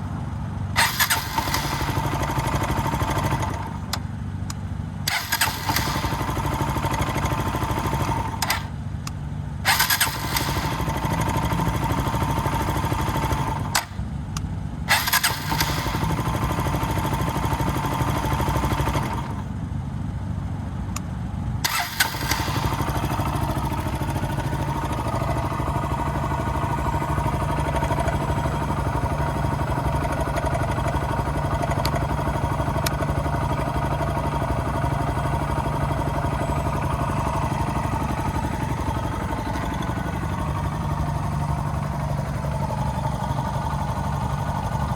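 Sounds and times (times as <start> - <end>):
motorcycle engine restarting and idling: 0.0 - 14.2, 14.9 - 19.6, 21.6 - 44.9.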